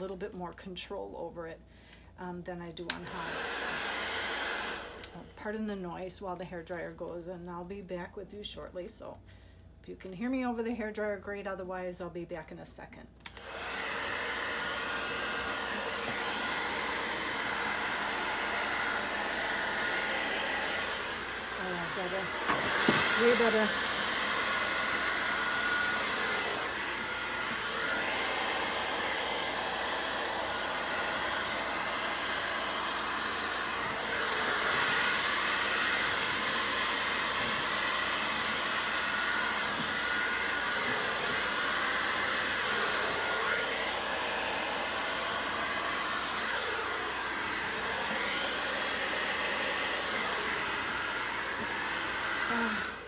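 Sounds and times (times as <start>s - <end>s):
hair dryer running: 2.6s - 5.7s, 13.2s - 53.0s.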